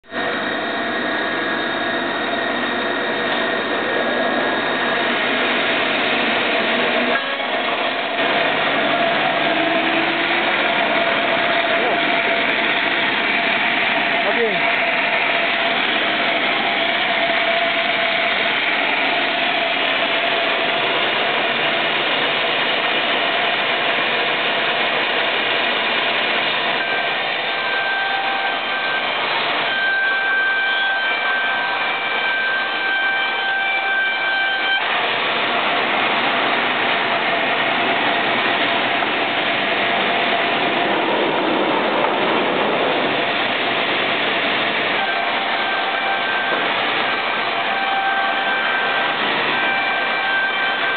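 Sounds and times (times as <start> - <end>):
band saw cutting board: 2.4 - 50.9.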